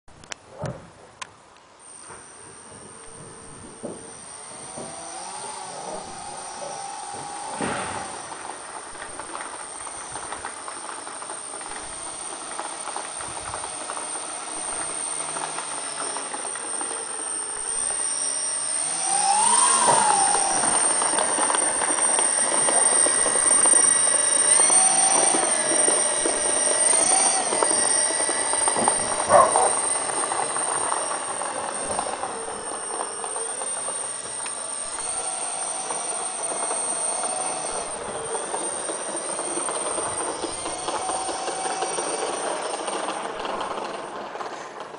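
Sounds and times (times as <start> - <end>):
electric motors and propellers whining: 0.2 - 44.9.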